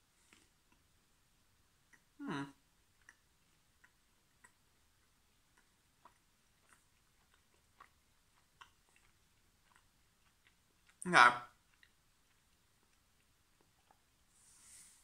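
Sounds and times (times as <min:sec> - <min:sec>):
chewing with mouth clicks: 0:00.2 - 0:01.0, 0:01.8 - 0:14.3.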